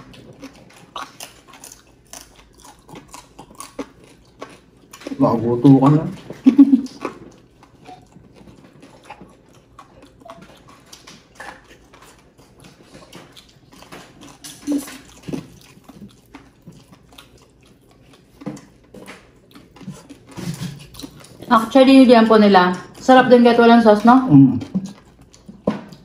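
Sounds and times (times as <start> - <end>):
chewing and mouth smacks: 0.0 - 5.5, 6.1 - 21.6, 23.9 - 26.0.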